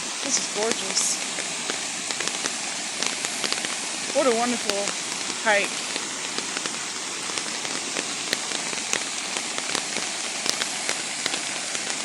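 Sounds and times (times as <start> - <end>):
sharp raindrop hits: 0.0 - 12.0
steady rain falling: 0.0 - 12.0.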